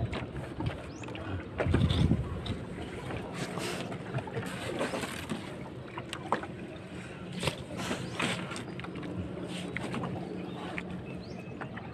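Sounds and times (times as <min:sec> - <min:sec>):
paddle strokes in water: 0:00.0 - 0:11.9
water lapping against hull: 0:00.0 - 0:11.9.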